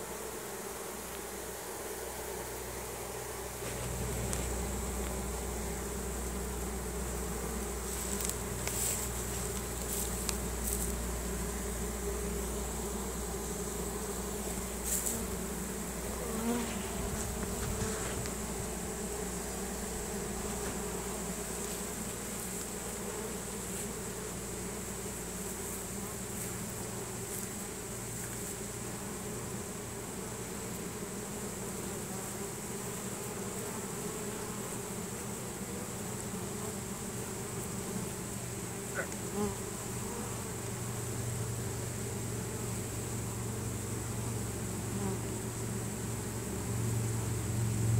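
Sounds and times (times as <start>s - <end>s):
bee swarm buzzing: 0.0s - 47.9s.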